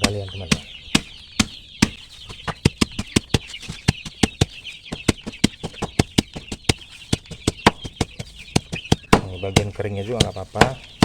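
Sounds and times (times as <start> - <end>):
blade chopping stalks: 0.0 - 11.0
chicks peeping: 0.0 - 11.0.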